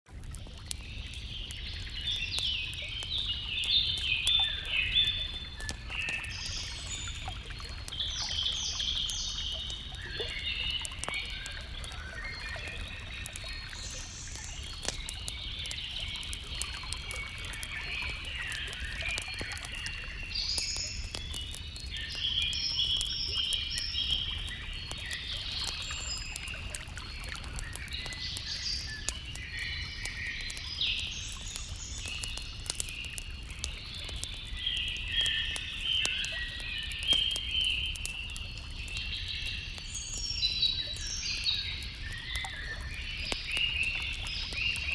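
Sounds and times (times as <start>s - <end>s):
campfire crackling: 0.1s - 44.9s.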